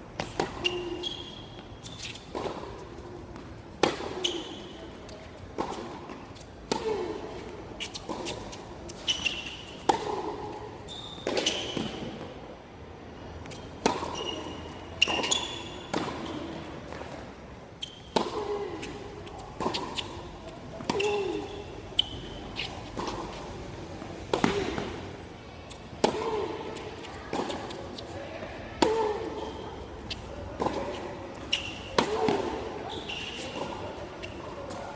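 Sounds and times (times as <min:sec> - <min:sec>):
racket hitting tennis ball: 0:00.2 - 0:12.4, 0:13.4 - 0:17.2, 0:17.8 - 0:23.5, 0:24.3 - 0:25.0, 0:25.7 - 0:34.9.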